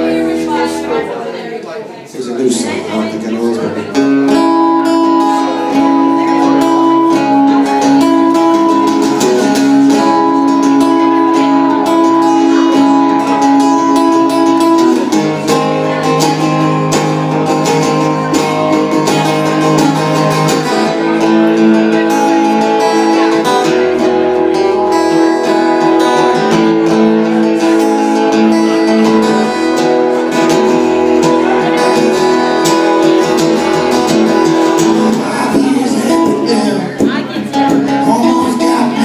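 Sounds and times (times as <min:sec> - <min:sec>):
acoustic guitar strumming: 0:00.0 - 0:01.6, 0:02.2 - 0:39.0.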